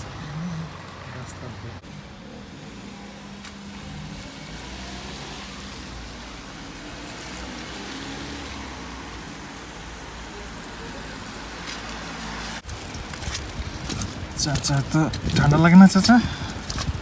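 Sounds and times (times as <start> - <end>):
vehicle tyres on slush: 0.0 - 17.0.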